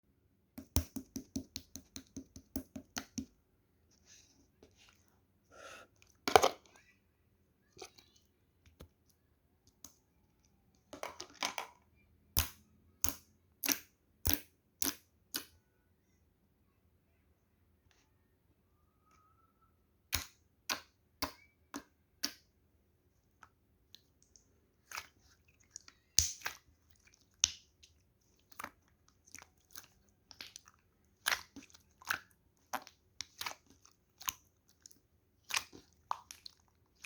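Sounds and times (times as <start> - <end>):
soft sticky slime sounds: 0.6 - 10.9, 17.1 - 37.0.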